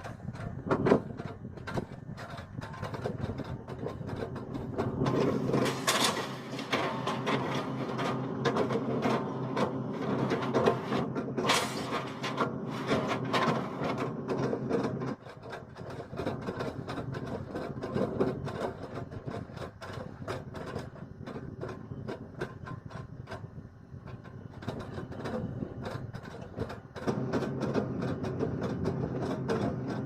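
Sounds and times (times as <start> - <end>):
excavator engine working: 0.0 - 30.0.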